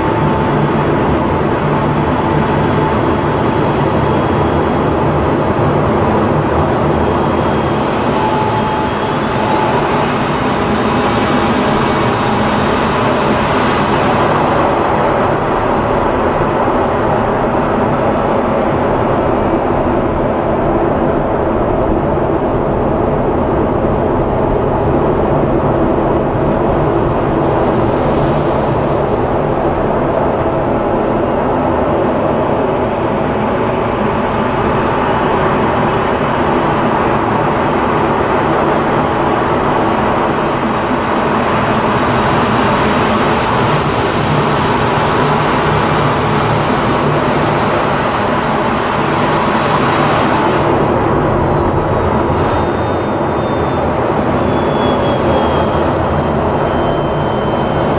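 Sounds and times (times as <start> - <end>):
high whine: 0.0 - 57.9
jet engine roar: 0.0 - 57.9.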